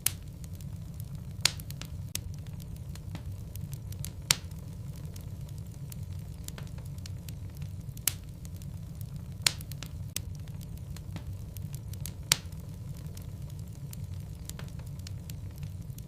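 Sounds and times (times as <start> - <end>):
low rumble of flames: 0.0 - 16.0
wood fire crackles and pops: 0.0 - 16.0.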